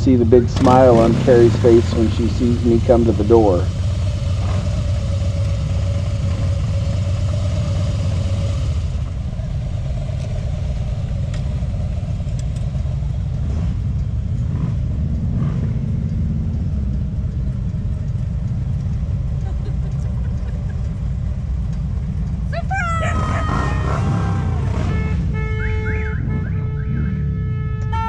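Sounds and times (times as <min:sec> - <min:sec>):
motorcycle engines idling: 0:00.0 - 0:28.0.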